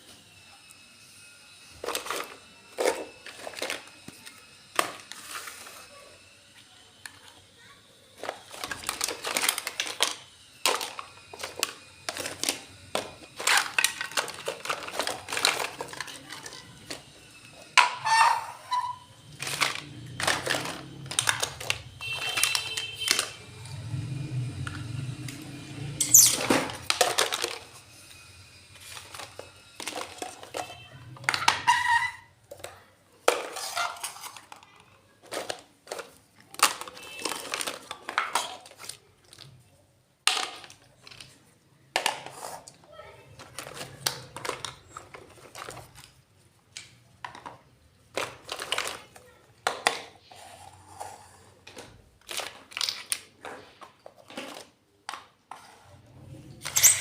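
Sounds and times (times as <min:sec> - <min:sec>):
toy kitchen pieces clinking: 0:01.7 - 0:06.3, 0:07.0 - 0:23.4, 0:26.0 - 0:39.6, 0:40.3 - 0:55.8, 0:56.6 - 0:57.0.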